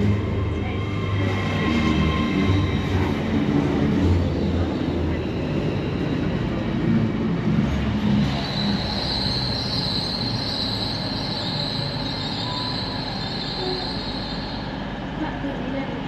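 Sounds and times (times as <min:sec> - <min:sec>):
train rumbling: 0:00.0 - 0:16.0
train wheels squealing on rails: 0:00.0 - 0:16.0.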